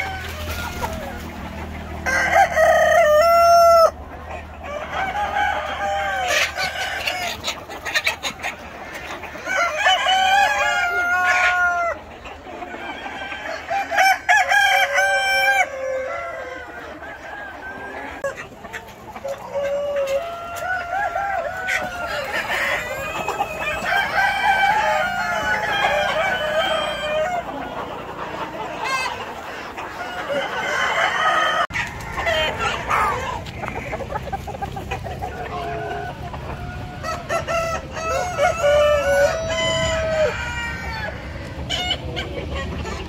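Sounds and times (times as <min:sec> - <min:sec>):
chickens clucking: 0:00.0 - 0:43.0
roosters crowing: 0:00.0 - 0:43.0.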